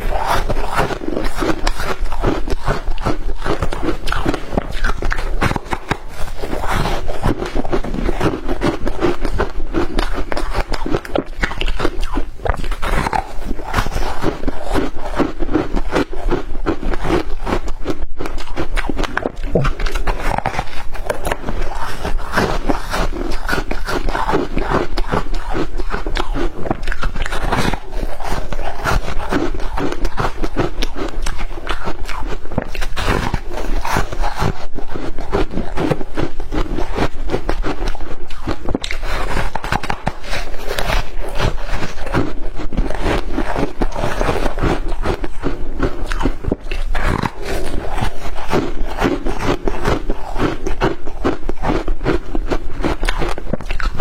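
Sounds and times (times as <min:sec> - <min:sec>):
person crunching ice: 0:00.0 - 0:54.0.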